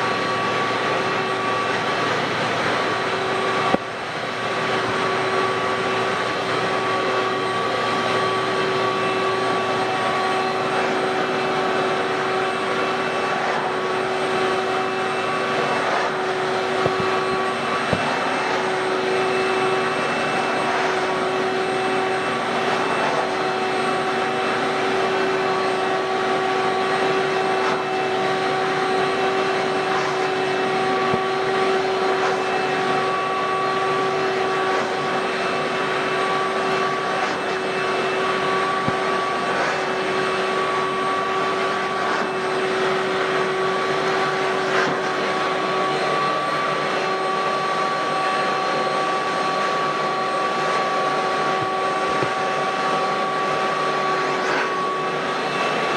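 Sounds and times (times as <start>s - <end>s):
nozzle pulled over carpet: 0.0s - 55.9s
vacuum cleaner motor whining: 0.0s - 55.9s.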